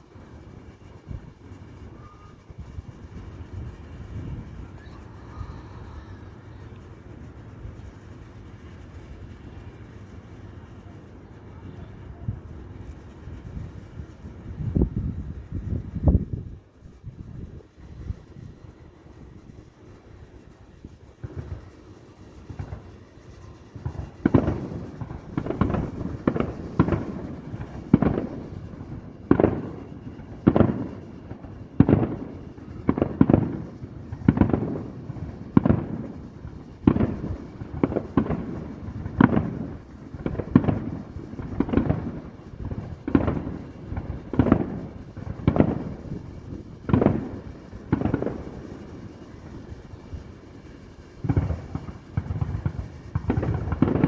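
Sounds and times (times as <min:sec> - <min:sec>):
fireworks booming: 0:00.0 - 0:54.0.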